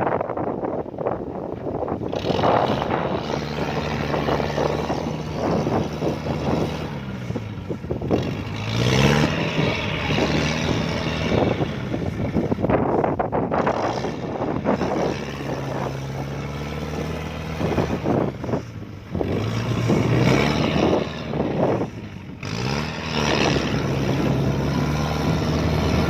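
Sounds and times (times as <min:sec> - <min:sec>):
diesel engine working: 0:00.2 - 0:26.0
rough mechanical noise: 0:00.2 - 0:26.0.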